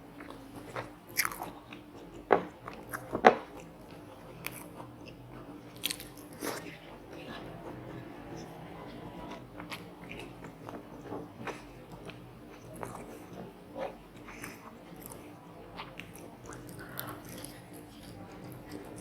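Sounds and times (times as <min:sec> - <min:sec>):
person chewing seafood: 0:00.2 - 0:07.5, 0:08.2 - 0:19.0.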